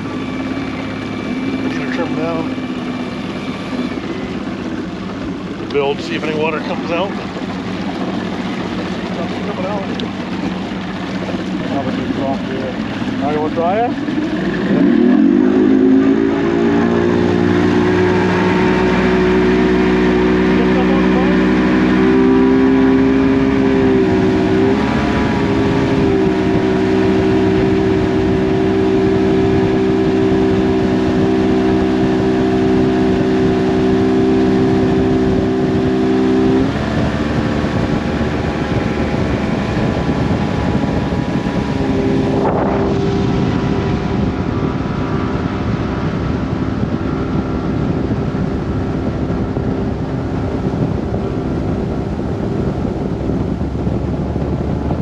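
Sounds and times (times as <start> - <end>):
outboard motor running: 0.0 - 55.0
rush of wind and water: 0.0 - 55.0.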